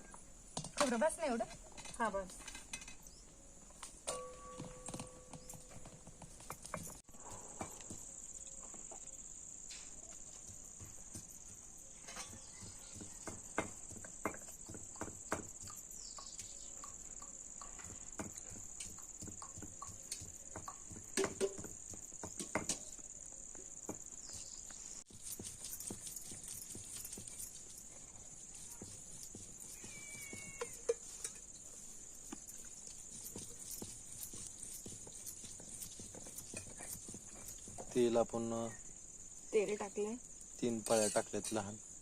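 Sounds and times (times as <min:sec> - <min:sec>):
crickets chirring: 0:00.0 - 0:42.0.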